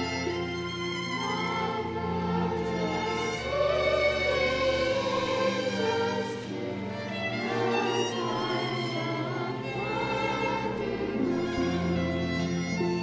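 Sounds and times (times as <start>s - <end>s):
children's choir singing: 0.0s - 13.0s
orchestral accompaniment with strings: 0.0s - 13.0s.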